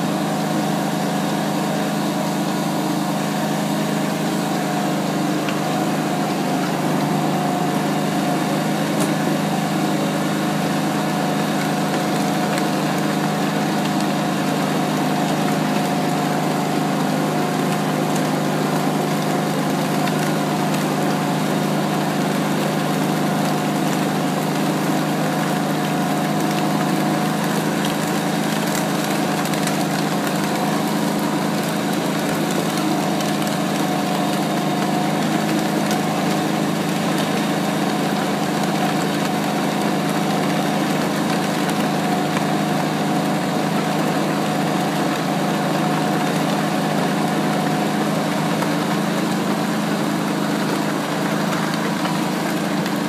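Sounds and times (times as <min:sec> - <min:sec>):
small engine running: 0:00.0 - 0:53.0.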